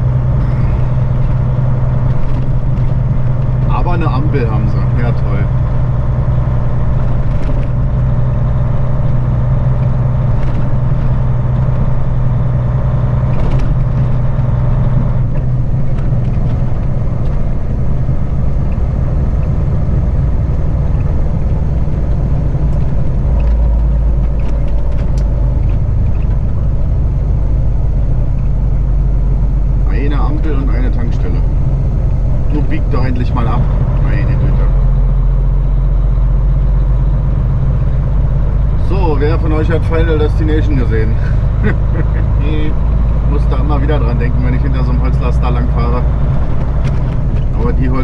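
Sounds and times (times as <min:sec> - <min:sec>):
deep low rumble: 0:00.0 - 0:48.0
truck diesel engine drone: 0:00.0 - 0:48.0.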